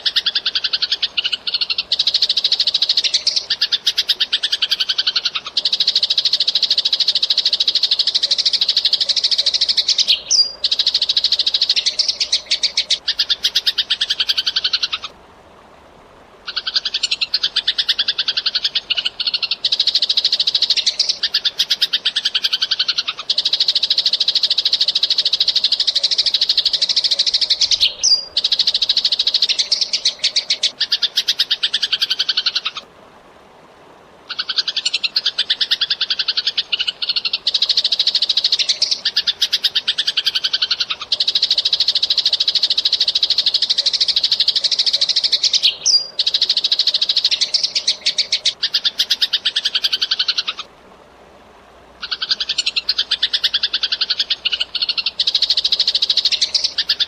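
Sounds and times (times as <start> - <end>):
sparrow chattering: 0.0 - 15.1, 16.5 - 32.8, 34.3 - 50.7, 52.0 - 57.0.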